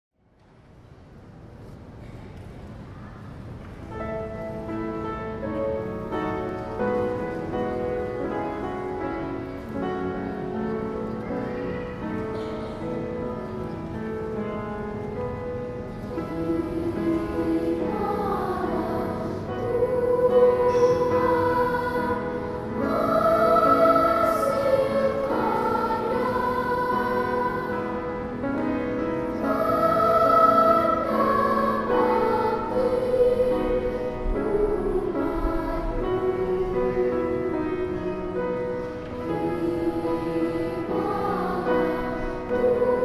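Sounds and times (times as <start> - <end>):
children's choir singing: 2.9 - 43.0.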